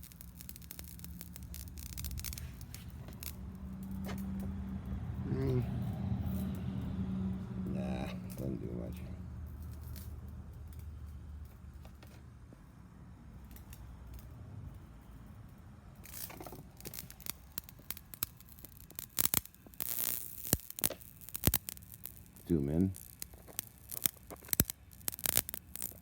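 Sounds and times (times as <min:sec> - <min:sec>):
electric arc crackling and snapping: 0:00.0 - 0:12.2, 0:13.4 - 0:14.3, 0:15.9 - 0:26.0
low electrical hum: 0:00.0 - 0:26.0.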